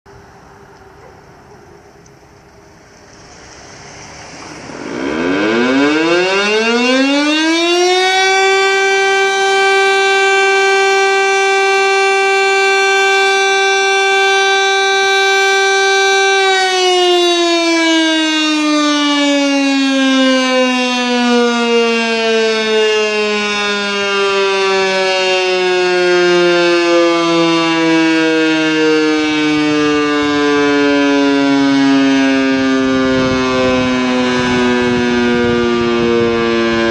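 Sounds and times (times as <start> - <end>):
civil defence siren wailing: 0.1 - 36.9.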